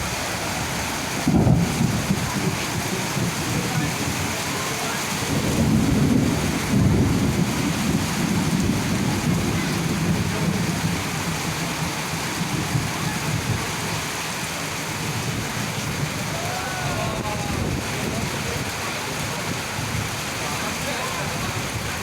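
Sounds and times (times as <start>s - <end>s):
thunder rumbling: 0.0s - 14.1s, 14.8s - 22.0s
heavy rain falling: 0.0s - 22.0s.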